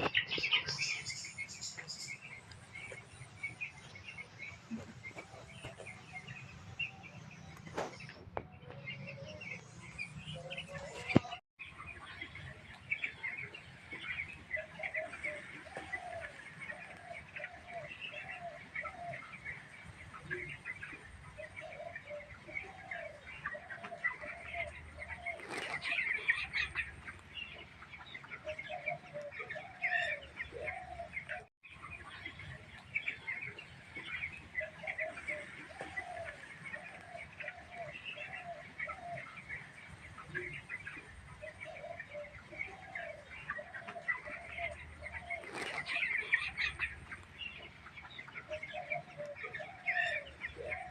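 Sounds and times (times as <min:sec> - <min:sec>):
chicks peeping: 0:00.0 - 0:50.9.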